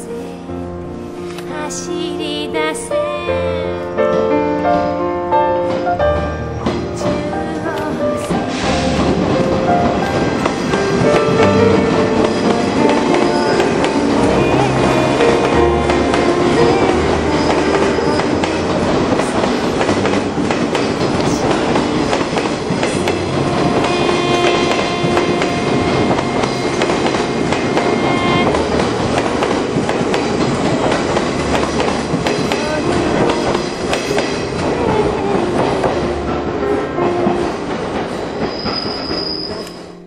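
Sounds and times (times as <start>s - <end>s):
train wheels clattering: 4.0s - 40.0s.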